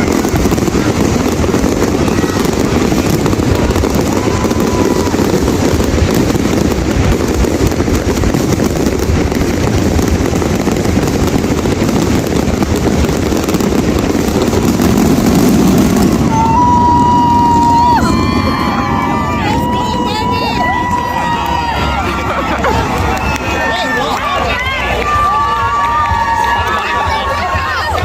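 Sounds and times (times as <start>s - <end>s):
fireworks crackling and banging: 0.0s - 28.0s.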